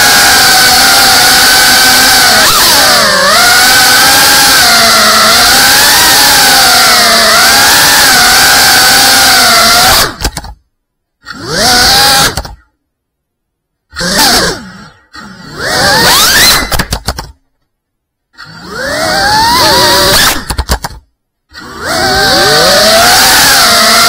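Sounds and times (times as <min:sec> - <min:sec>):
drone motors whining: 0:00.0 - 0:10.5, 0:11.2 - 0:12.6, 0:13.9 - 0:17.1, 0:18.4 - 0:24.0.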